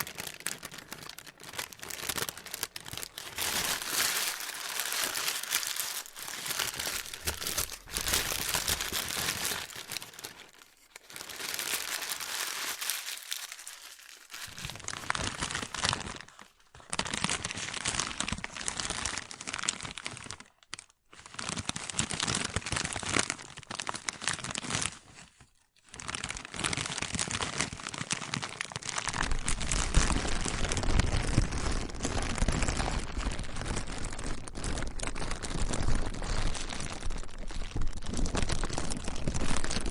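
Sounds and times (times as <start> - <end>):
plastic crinkling: 0.0 - 39.9.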